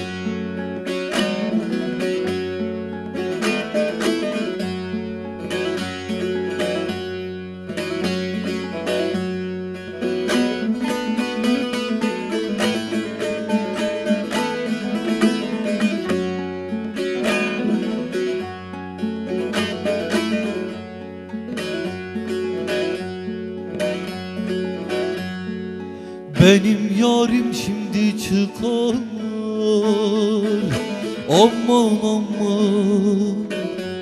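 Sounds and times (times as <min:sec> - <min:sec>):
plucked lute and acoustic guitar: 0:00.0 - 0:34.0.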